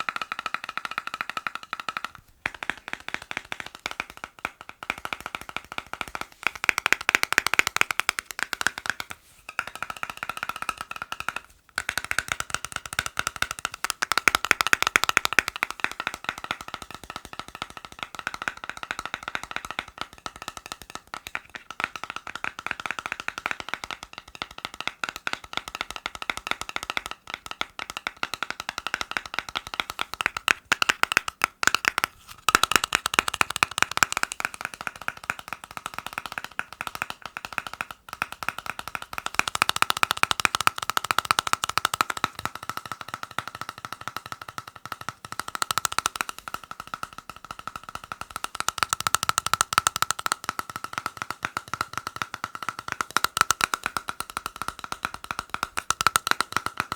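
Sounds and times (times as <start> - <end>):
fast tapping on hard objects: 0.0 - 56.9.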